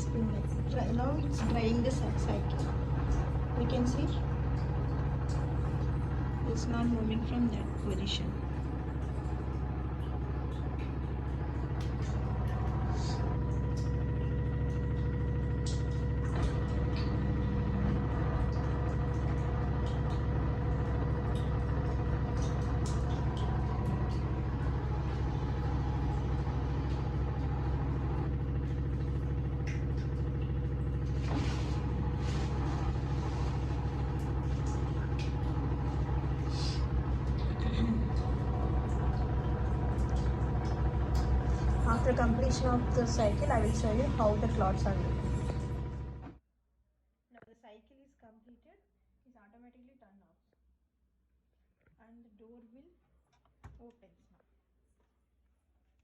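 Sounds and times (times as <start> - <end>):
washing machine drum spinning: 0.0 - 46.4.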